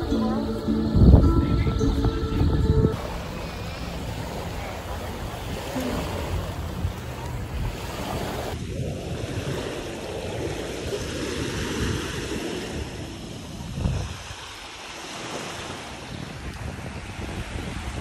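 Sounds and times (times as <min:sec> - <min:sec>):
wind buffeting microphone: 0:00.0 - 0:18.0
small waves washing onto shore: 0:03.0 - 0:18.0.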